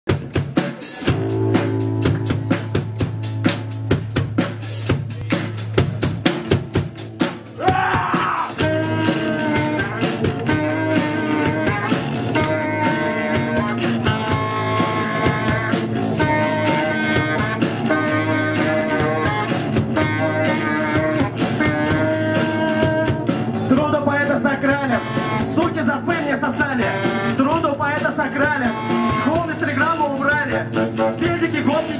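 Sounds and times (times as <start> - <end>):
bass line: 0.1 - 31.9
drum kit hits: 0.1 - 31.9
guitar: 0.1 - 31.9
saxophone melody: 1.0 - 5.3, 8.5 - 31.4.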